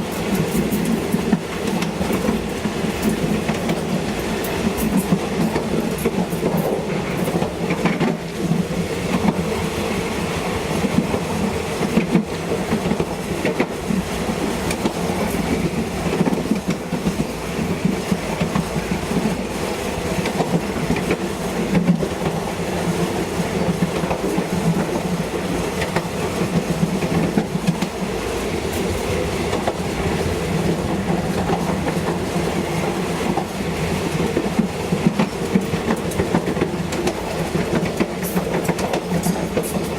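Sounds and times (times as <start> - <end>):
wheels clicking over rail joints: 0.0 - 9.5, 10.8 - 39.9
train rumbling along track: 0.0 - 39.9.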